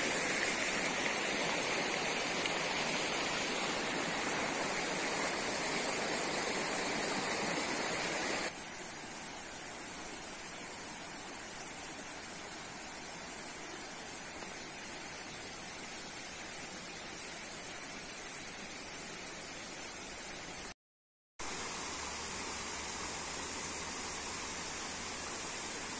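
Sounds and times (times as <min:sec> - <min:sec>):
even hiss: 0:00.0 - 0:20.8, 0:21.4 - 0:25.9.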